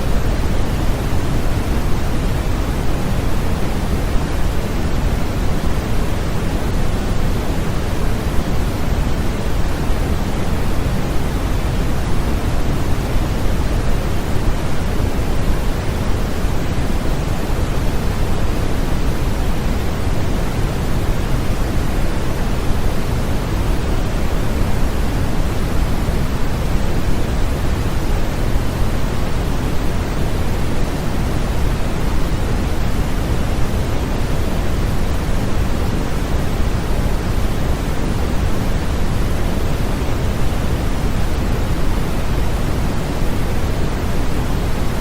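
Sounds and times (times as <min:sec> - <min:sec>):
steady pink noise: 0:00.0 - 0:45.0.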